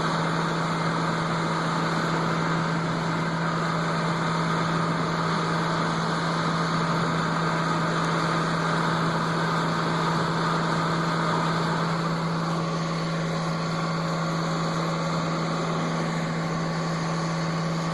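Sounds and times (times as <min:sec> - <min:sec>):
farm machinery engine humming: 0:00.0 - 0:17.9.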